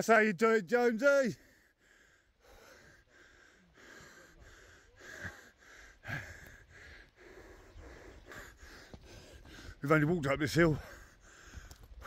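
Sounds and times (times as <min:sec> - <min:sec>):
heavy breathing with wheeze: 0:01.4 - 0:09.8, 0:10.5 - 0:12.0.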